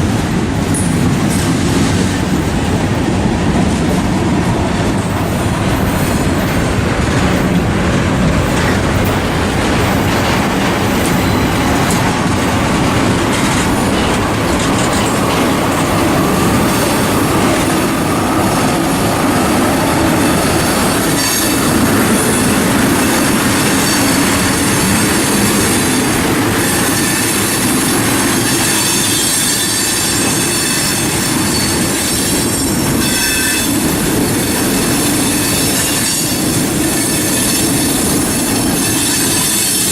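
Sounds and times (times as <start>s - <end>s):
freight train rolling past: 0.0s - 39.9s
wheels clicking over rail joints: 0.5s - 39.9s.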